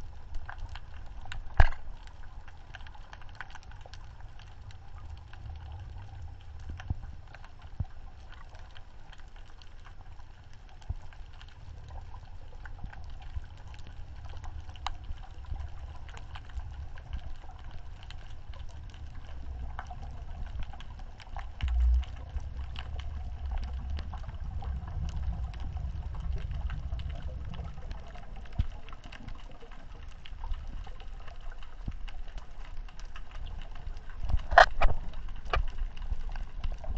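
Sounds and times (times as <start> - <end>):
faint scattered clicks: 0.0 - 36.9
underwater rumble of moving water: 0.0 - 36.9.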